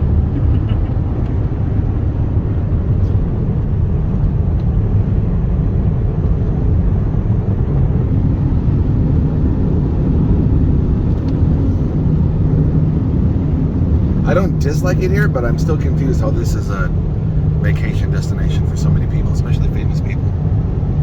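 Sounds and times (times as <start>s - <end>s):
road and wind noise inside car: 0.0s - 21.0s.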